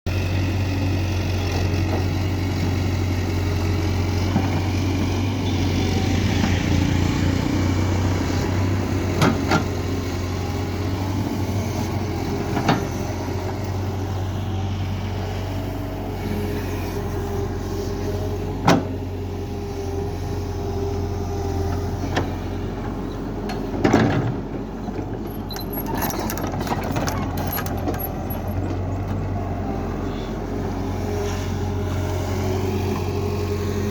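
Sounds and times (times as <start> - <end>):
diesel engine humming: 0.1 - 33.9.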